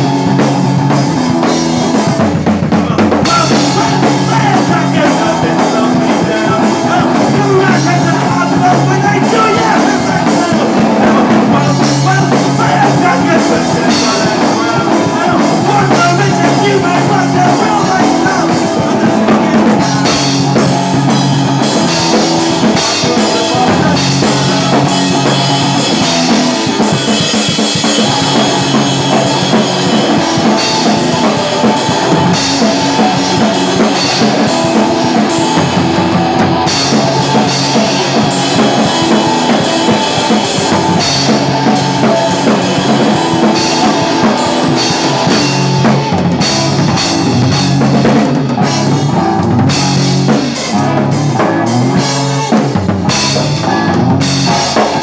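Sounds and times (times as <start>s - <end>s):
drum kit beat: 0.0s - 55.0s
electric guitar through amp: 0.0s - 55.0s
rock band playing live: 0.0s - 55.0s.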